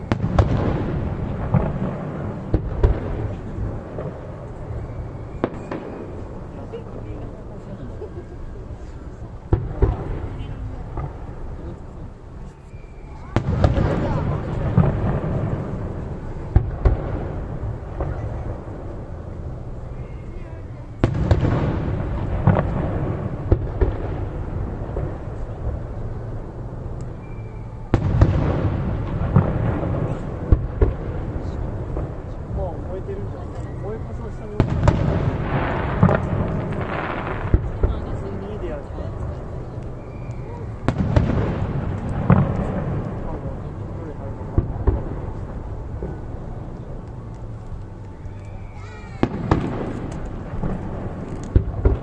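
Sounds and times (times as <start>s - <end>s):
fireworks crackling pops: 0.0s - 7.1s, 8.6s - 52.0s
fireworks booming: 0.0s - 48.0s, 48.6s - 52.0s
low rolling rumble: 0.0s - 52.0s
sharp fireworks cracks: 0.0s - 52.0s.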